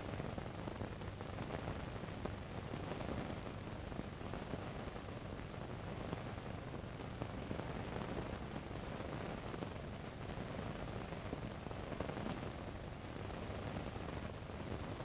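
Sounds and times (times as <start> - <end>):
film soundtrack hiss and crackle: 0.0 - 15.0.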